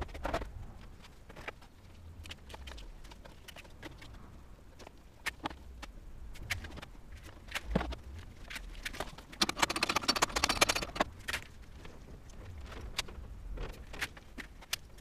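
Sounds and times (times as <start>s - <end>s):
wiring clicking and rustling: 0.0s - 15.0s.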